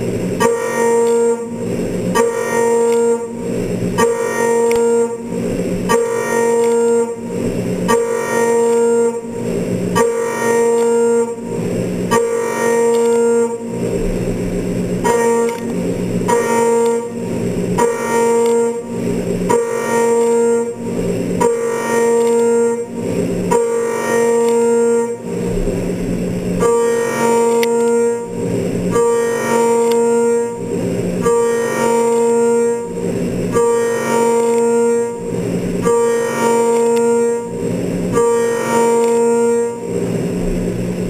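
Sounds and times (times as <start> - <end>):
milling cutter whining on steel: 0.0 - 41.0.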